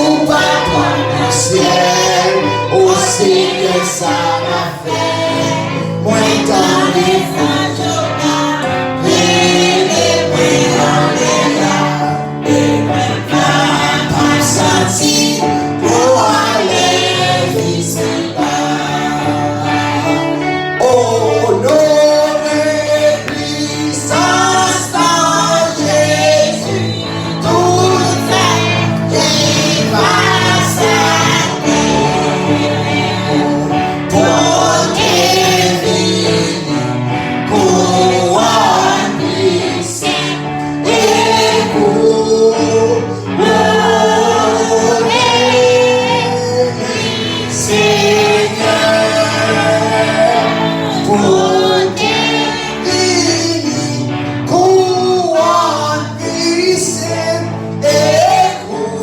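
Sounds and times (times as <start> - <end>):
group singing gospel song: 0.0 - 59.0
instrumental accompaniment: 0.0 - 59.0.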